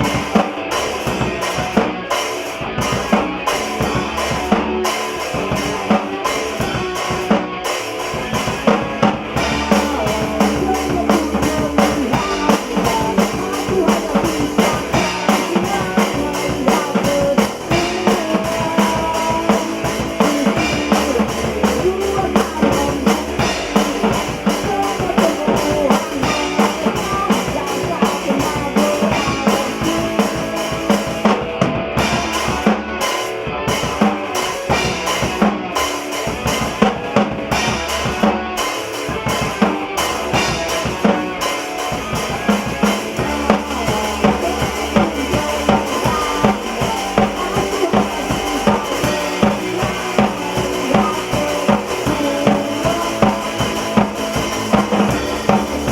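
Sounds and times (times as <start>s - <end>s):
drum kit: 0.0s - 55.9s
live band playing: 0.0s - 55.9s.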